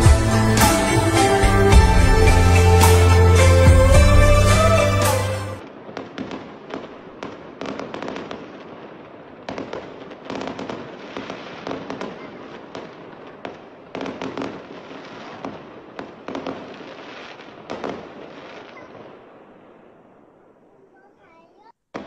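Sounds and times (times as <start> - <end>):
fireworks bangs and crackling: 0.0 - 21.2.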